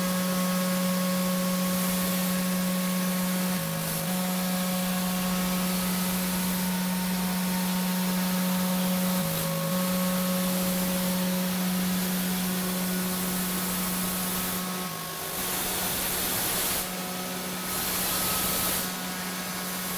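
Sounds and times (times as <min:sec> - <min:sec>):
hiss of cutting and air: 0:00.0 - 0:19.9
machine spindle humming: 0:00.0 - 0:19.9.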